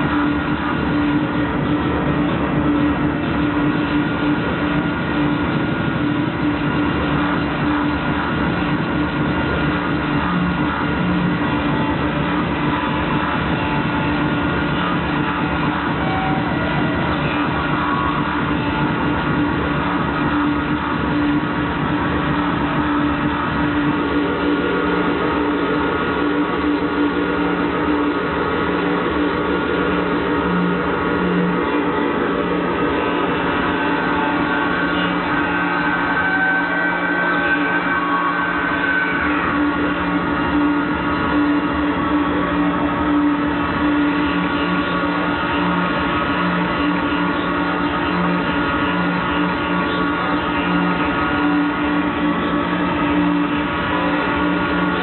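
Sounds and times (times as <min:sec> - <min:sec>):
industrial noise music: 0:00.0 - 0:55.0
steady droning tone: 0:00.0 - 0:55.0.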